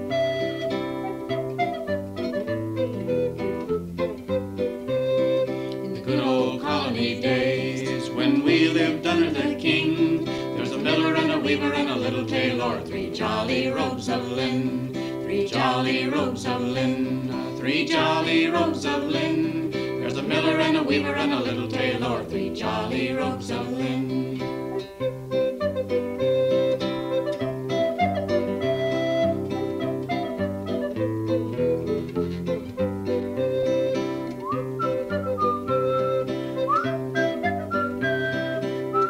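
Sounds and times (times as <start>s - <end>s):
song with acoustic guitar: 0.0s - 39.0s.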